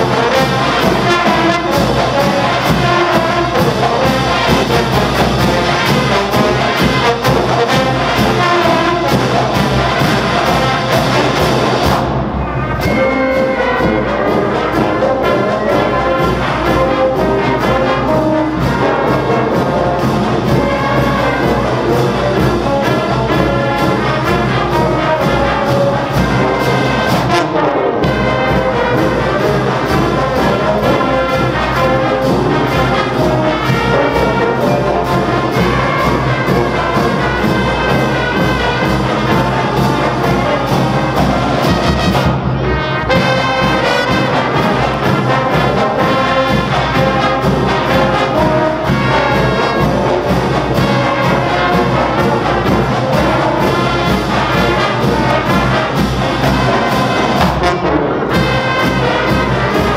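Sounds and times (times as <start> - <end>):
marching band brass playing: 0.0 - 59.9
percussion beat: 0.0 - 59.9.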